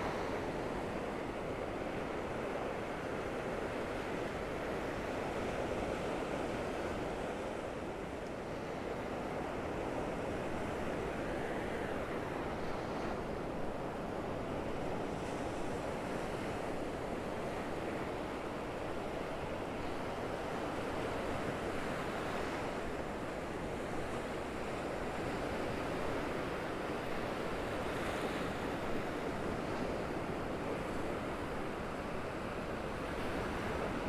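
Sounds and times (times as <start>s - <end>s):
waves washing onto beach: 0.0s - 34.0s.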